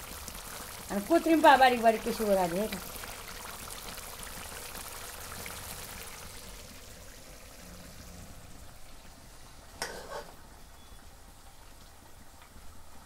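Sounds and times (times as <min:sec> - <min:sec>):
meat sizzling in oil: 0:00.0 - 0:10.9.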